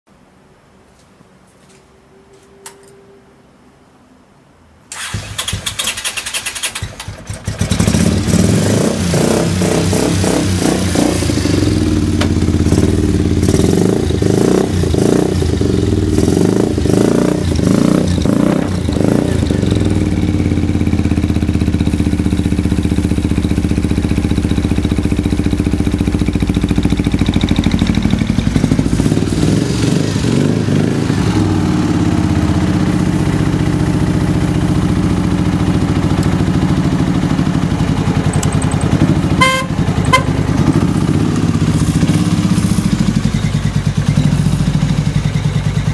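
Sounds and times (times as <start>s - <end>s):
motorcycle engine revving and idling: 5.0s - 45.9s.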